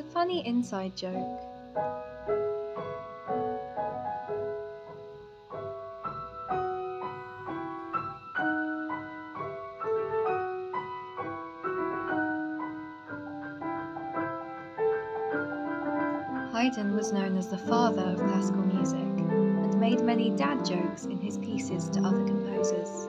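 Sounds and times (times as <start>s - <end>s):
solo piano music: 0.0s - 23.0s.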